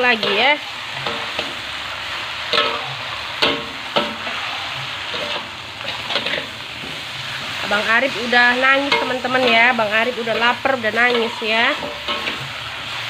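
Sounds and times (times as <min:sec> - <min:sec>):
greens sizzling in a wok: 0:00.0 - 0:13.0
spatula scraping a pan: 0:02.5 - 0:13.0.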